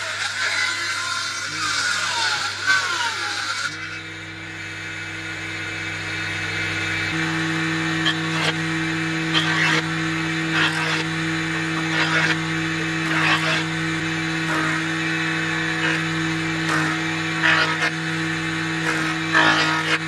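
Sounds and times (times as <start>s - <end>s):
table saw motor hum: 0.0s - 20.0s.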